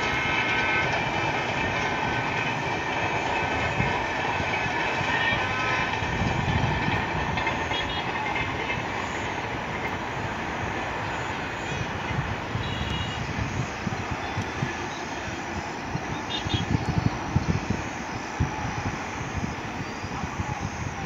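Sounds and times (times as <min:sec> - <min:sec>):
distant train wheels rumbling: 0:00.0 - 0:21.0.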